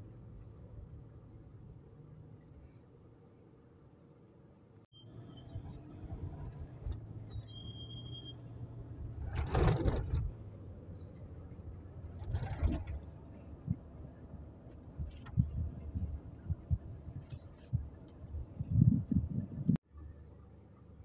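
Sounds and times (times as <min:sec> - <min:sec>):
car cabin engine and road hum: 0:00.0 - 0:21.0.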